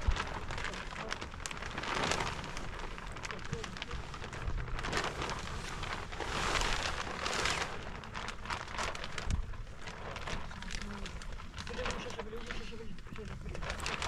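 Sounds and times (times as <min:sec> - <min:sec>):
rain falling: 0:00.0 - 0:14.0
wind rumble on microphone: 0:00.0 - 0:14.0.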